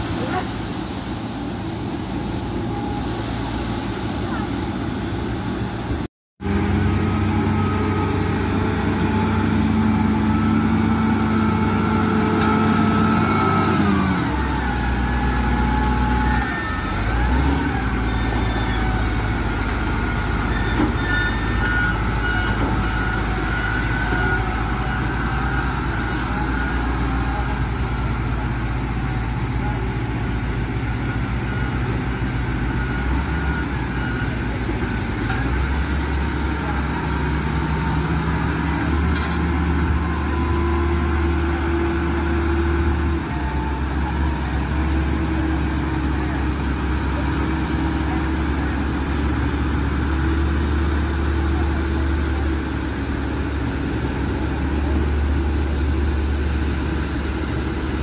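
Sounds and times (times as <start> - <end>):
diesel engine working at high revs: 0.0 - 58.0.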